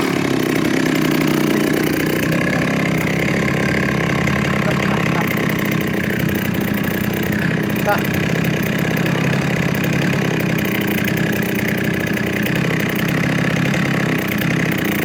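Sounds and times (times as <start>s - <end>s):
chainsaw cutting log: 0.0s - 15.0s.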